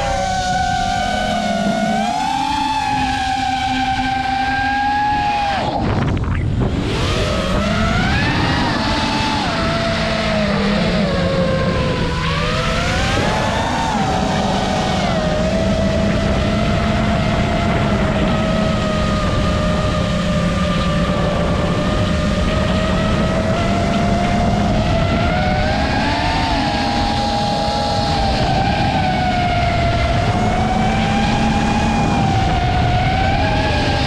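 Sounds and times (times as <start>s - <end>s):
drone motors whining: 0.0s - 34.0s
low rushing noise: 0.0s - 34.0s.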